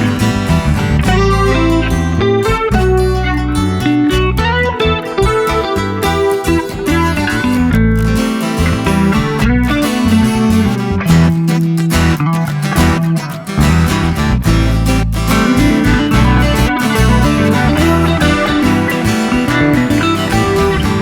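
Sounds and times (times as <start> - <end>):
strummed guitar music: 0.0 - 21.0.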